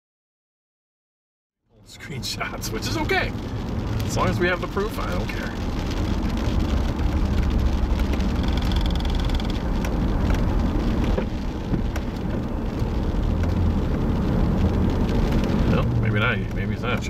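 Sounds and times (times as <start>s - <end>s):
road and engine rumble: 1.6s - 17.0s
raindrops ticking on windshield: 1.8s - 17.0s.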